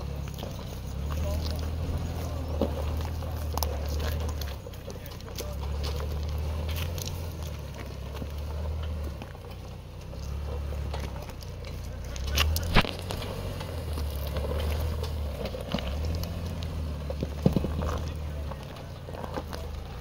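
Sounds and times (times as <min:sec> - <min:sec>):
engine rumbling at low speed: 0:00.0 - 0:20.0
tyres and body crunching and knocking: 0:00.0 - 0:20.0.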